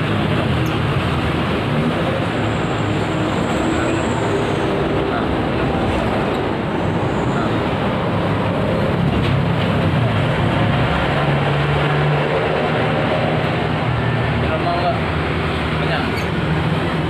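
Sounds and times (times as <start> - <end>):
loud mechanical rumble: 0.0 - 17.0.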